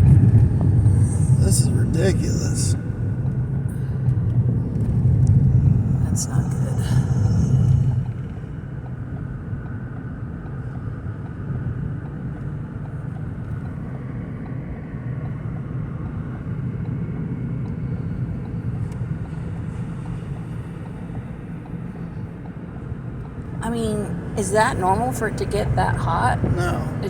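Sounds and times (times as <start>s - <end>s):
car engine droning in cabin: 0.0s - 27.0s.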